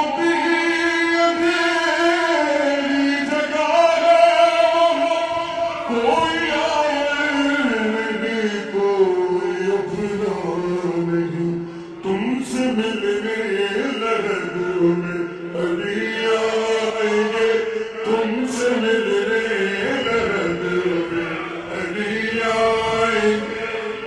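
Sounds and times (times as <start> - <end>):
man chanting with reverb: 0.0 - 24.0.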